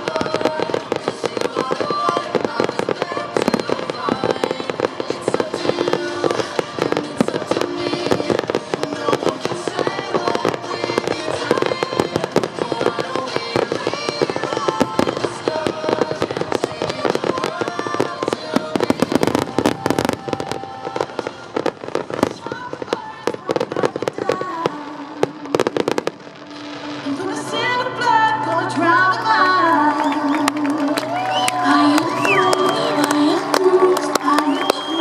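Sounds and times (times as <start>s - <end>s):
fireworks bursting and crackling: 0.0s - 35.0s
music: 0.0s - 35.0s.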